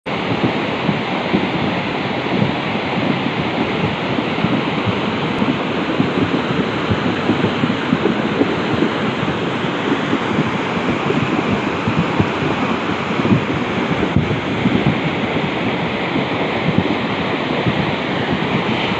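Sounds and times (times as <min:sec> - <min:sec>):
floodwater rushing torrent: 0:00.1 - 0:18.9.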